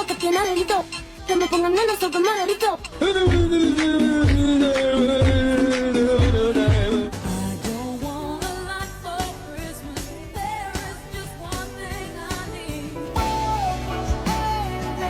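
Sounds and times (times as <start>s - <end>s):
pop music with singing: 0.0s - 15.0s.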